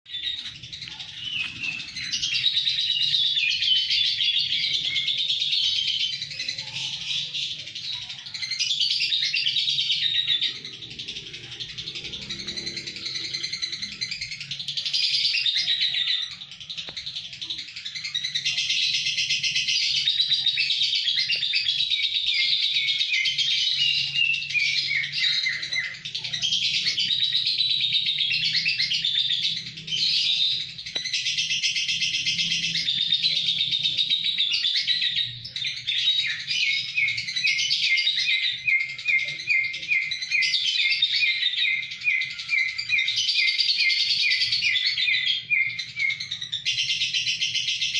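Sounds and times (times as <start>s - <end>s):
lovebird chattering song: 0.1s - 47.9s.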